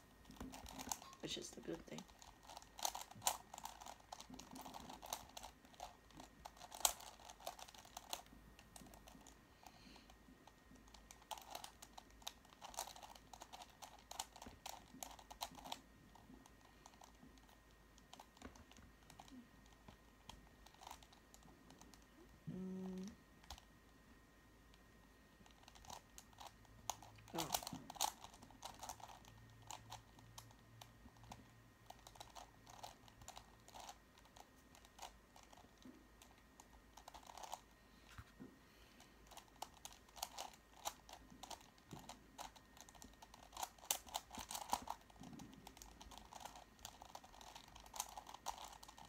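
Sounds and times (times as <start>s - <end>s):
plastic puzzle clicking: 0.2s - 9.4s, 10.4s - 22.1s, 25.4s - 37.6s, 39.2s - 49.0s.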